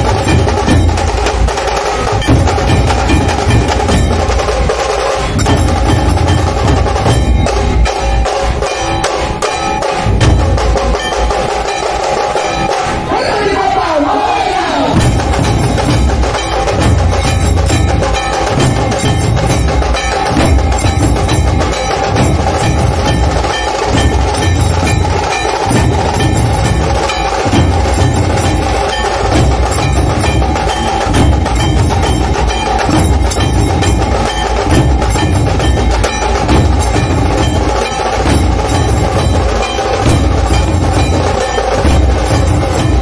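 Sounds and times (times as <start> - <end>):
steady ringing tone: 0.0 - 13.1, 14.9 - 43.0
dhol drums beaten with sticks: 0.0 - 43.0
fast tasha drum strokes: 0.0 - 43.0.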